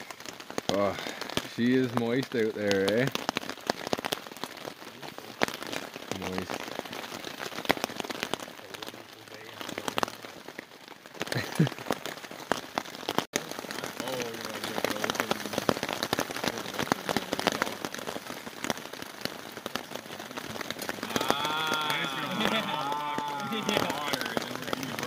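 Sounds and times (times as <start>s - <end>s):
heavy rain patter: 0.0s - 25.0s.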